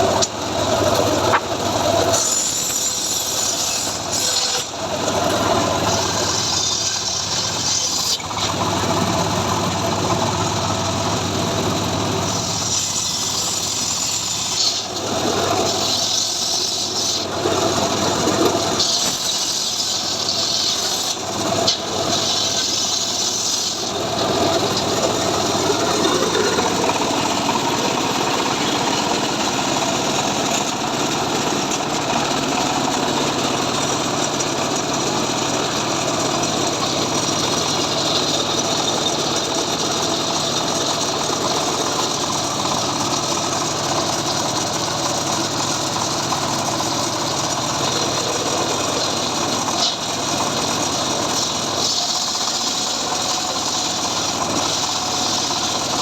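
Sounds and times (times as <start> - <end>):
saw rig engine running: 0.0 - 56.0.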